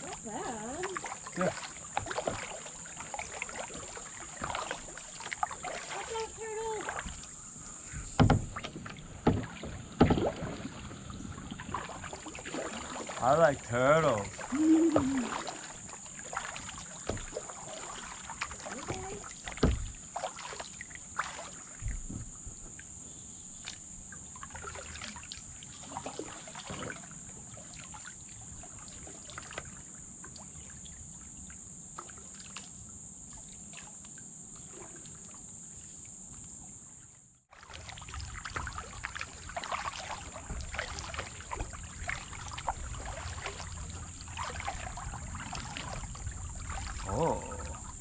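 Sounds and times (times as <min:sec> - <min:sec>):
high insect drone: 0:00.0 - 0:48.0
paddle splashing water: 0:00.0 - 0:48.0.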